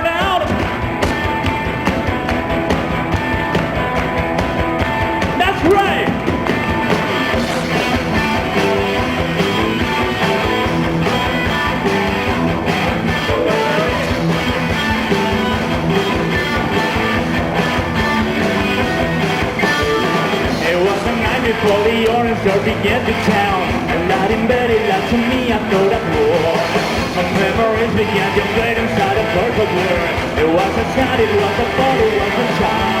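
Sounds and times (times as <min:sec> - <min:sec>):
drums: 0:00.0 - 0:33.0
electric guitars: 0:00.0 - 0:33.0.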